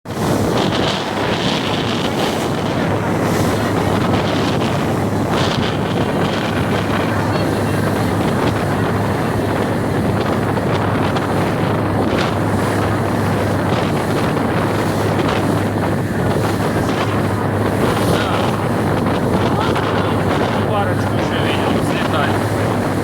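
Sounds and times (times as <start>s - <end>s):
wind buffeting microphone: 0.0s - 23.0s
motorboat engine drone: 0.1s - 23.0s
water rushing past hull: 0.1s - 23.0s.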